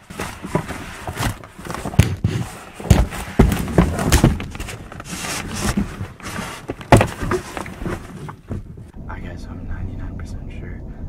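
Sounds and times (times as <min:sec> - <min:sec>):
cardboard box thuds and knocks: 0:00.0 - 0:08.9.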